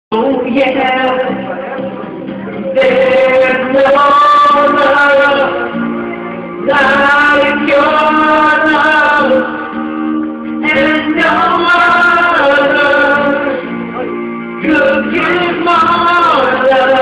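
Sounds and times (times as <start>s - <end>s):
song with singing voices: 0.1s - 17.0s.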